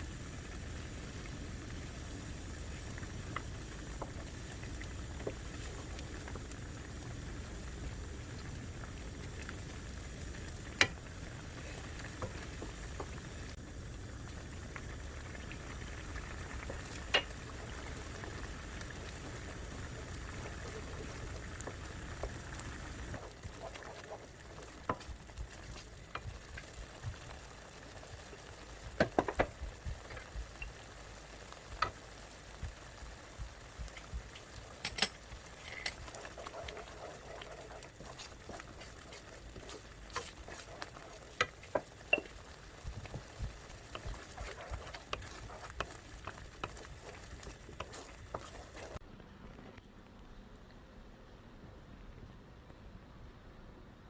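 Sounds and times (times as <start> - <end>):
food cooking on stove: 0.0 - 49.0.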